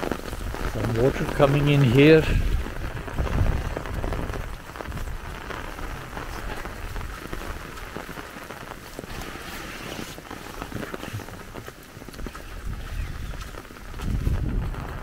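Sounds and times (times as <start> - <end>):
footsteps on wet ground: 0.0 - 15.0
rain falling on an umbrella: 0.0 - 15.0.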